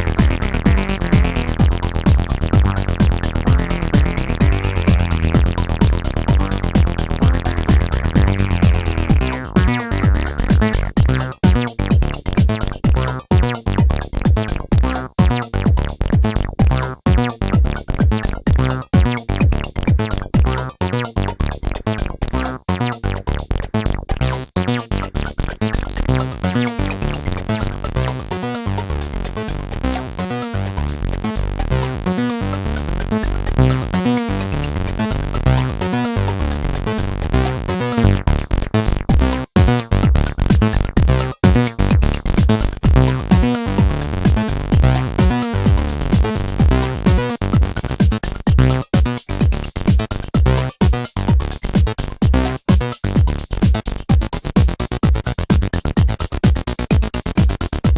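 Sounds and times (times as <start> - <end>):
acid synth bassline: 0.0 - 57.9
drum machine beat: 0.0 - 57.9.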